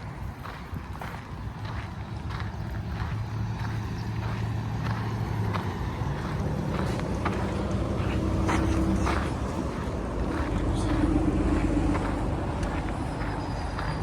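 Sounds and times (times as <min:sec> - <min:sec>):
footsteps walking: 0:00.0 - 0:14.0
road traffic hum: 0:00.0 - 0:14.0.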